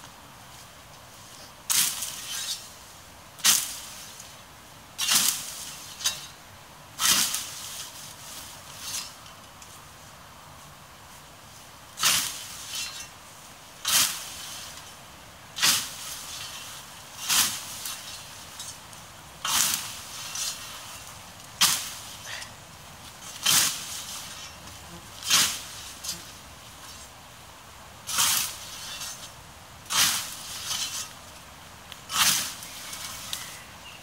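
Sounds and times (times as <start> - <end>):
grass rustling: 0.0 - 34.0
scythe swishing through grass: 0.5 - 4.4, 5.0 - 6.4, 7.0 - 15.0, 15.6 - 27.2, 28.0 - 34.0.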